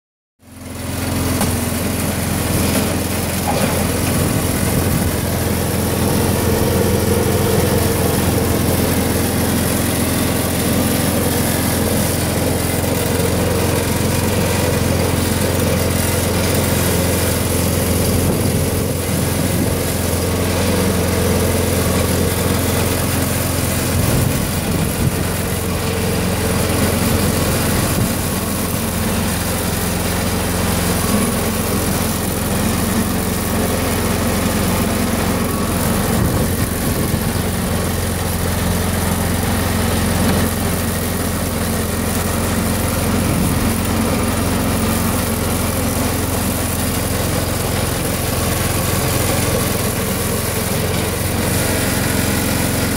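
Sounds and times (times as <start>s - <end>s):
small petrol engine running: 0.4s - 52.9s.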